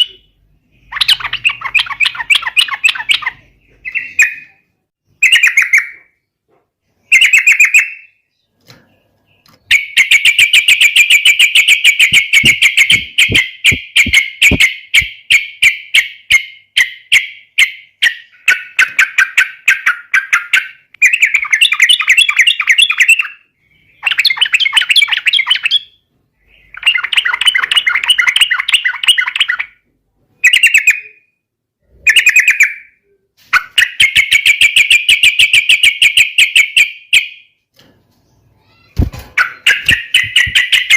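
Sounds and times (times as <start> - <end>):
bird chattering song: 0.0 - 29.8, 30.4 - 37.5, 38.2 - 40.9.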